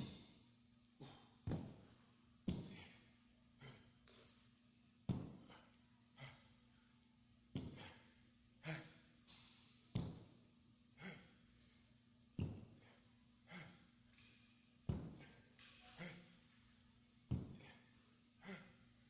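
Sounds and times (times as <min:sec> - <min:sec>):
faint steady hum: 0:00.0 - 0:19.0
man breathing hard: 0:01.0 - 0:04.5, 0:05.1 - 0:07.0, 0:07.6 - 0:09.4, 0:10.0 - 0:14.0, 0:14.9 - 0:19.0.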